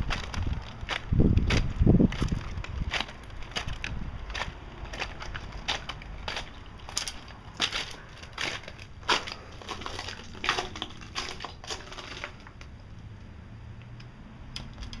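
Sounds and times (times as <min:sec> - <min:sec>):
footsteps crunching on shells and gravel: 0:00.0 - 0:12.7.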